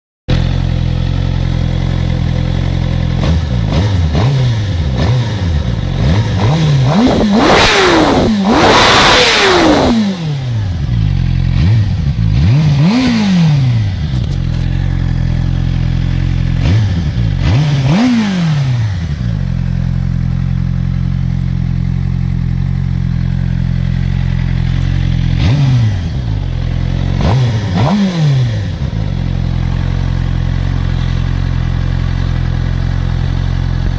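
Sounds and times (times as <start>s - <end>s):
motorcycle engine idling and revving: 0.3s - 33.9s.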